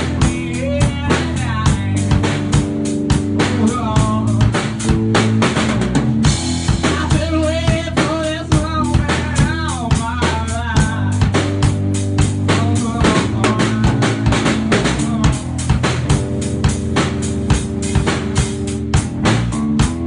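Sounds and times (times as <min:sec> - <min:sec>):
bass guitar notes: 0:00.0 - 0:20.0
drum kit groove: 0:00.0 - 0:20.0.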